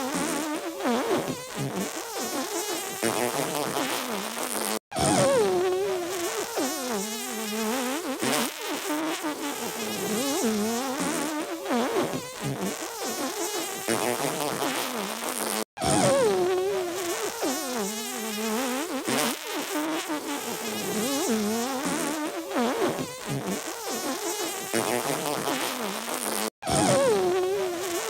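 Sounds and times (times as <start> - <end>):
comedic sneeze and fart sounds: 0.0 - 7.2, 8.0 - 28.0.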